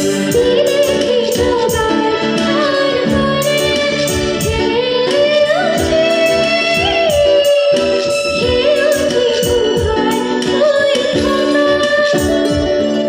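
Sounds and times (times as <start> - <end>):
instrumental accompaniment with beat: 0.0 - 13.0
girl singing: 0.1 - 13.0.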